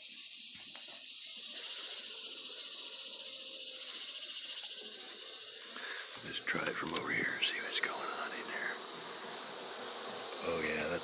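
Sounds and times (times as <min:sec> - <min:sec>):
insect chorus hiss: 0:00.0 - 0:11.0.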